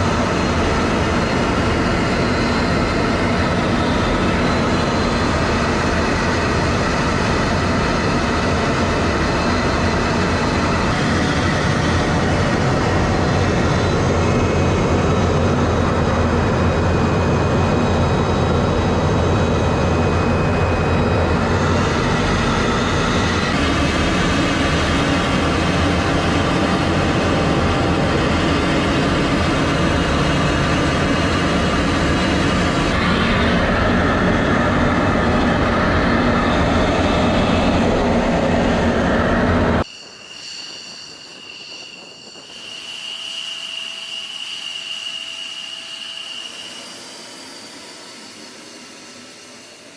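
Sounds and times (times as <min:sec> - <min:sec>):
faint whining tones: 0:00.0 - 0:49.9
loud mechanical drone: 0:00.0 - 0:49.9.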